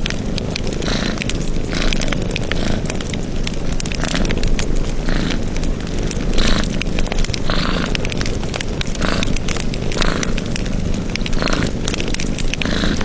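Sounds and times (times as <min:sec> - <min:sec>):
fire hissing flares: 0:00.0 - 0:13.0
wood fire crackling: 0:00.0 - 0:13.0.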